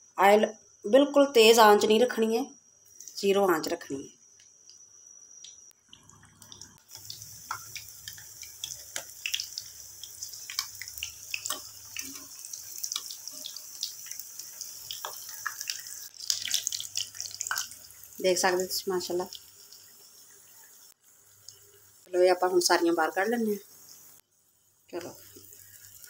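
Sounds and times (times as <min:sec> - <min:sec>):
patties sizzling in oil: 0:01.7 - 0:26.0.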